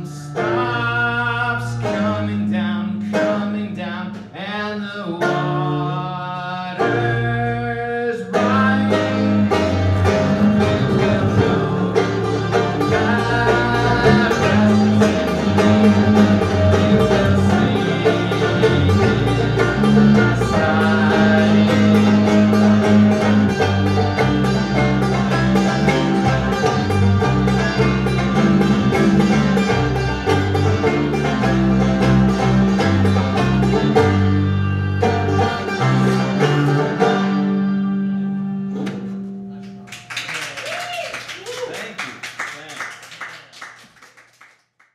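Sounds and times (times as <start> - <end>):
banjo picking: 0.0 - 39.8
bowed double bass: 0.0 - 39.8.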